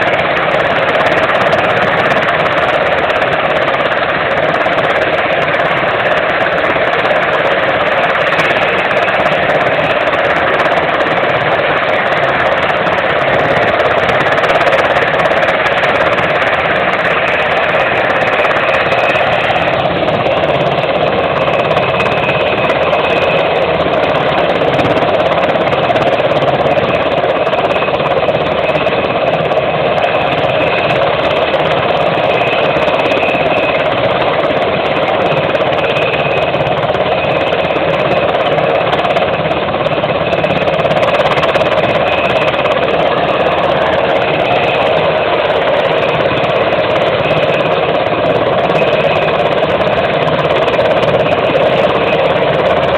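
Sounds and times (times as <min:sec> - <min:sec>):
helicopter rotors and engines: 0:00.0 - 0:52.9.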